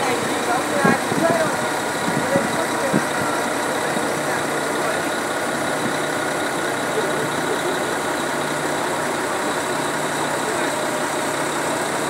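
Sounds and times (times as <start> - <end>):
concrete pump diesel engine running: 0.0 - 12.0.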